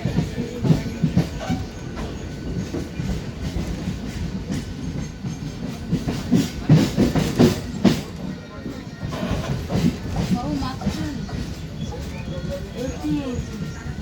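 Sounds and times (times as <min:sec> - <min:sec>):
train rumble inside coach: 0:00.0 - 0:14.0
wheels clacking over rail joints: 0:00.0 - 0:14.0.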